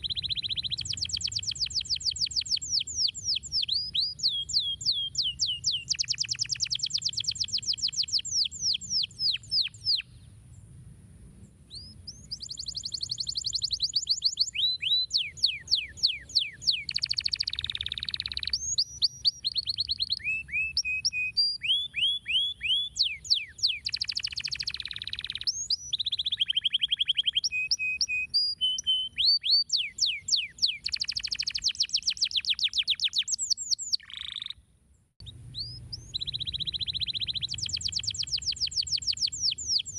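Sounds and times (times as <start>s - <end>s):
canary singing chirps and trills: 0.0s - 10.2s, 11.7s - 34.6s, 35.2s - 39.9s.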